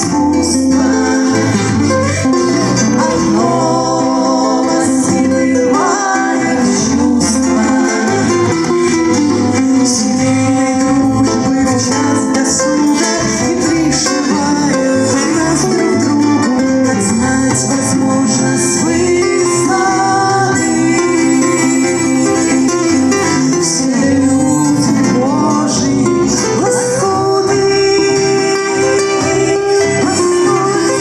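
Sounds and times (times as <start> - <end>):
acoustic band music: 0.0 - 31.0
acoustic guitar: 0.0 - 31.0.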